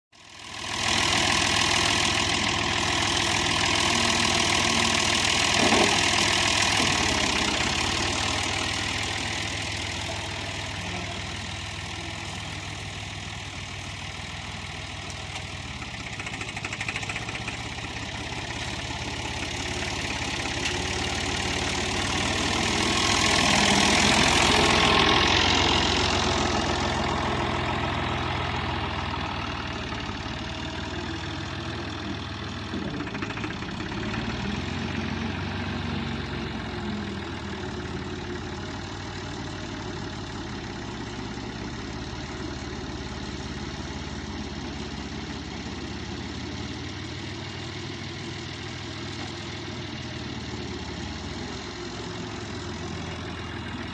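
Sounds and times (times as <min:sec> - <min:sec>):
tractor engine running: 0:00.2 - 0:53.9.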